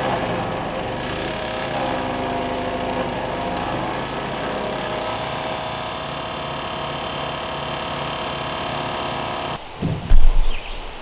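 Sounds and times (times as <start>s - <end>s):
wood chipper engine running: 0.0s - 9.6s.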